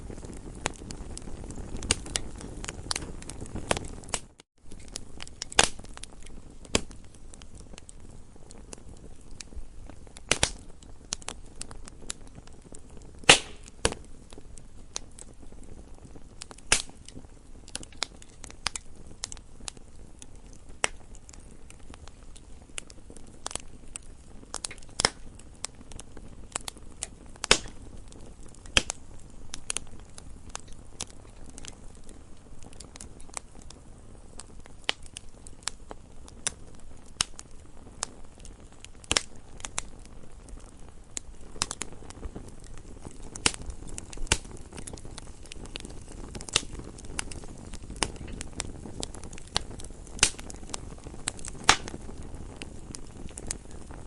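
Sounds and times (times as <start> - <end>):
burning wood hissing: 0.0 - 54.0
campfire pops and snaps: 0.0 - 54.0.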